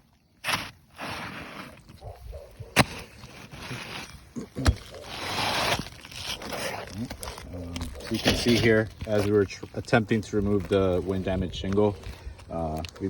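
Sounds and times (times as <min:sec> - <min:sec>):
roof shingle scraping and crackling: 0:00.0 - 0:13.0.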